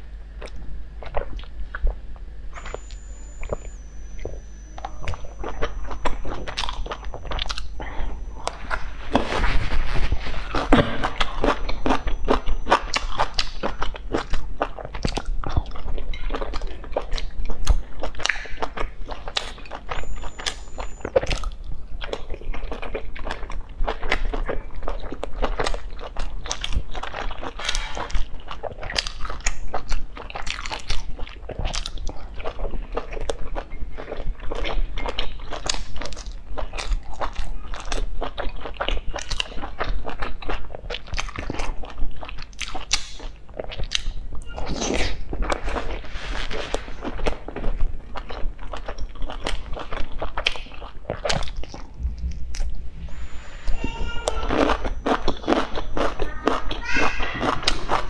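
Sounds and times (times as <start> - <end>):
person chewing with wet mouth clicks: 0.4 - 2.0, 2.6 - 9.3, 10.4 - 46.0, 47.0 - 53.3.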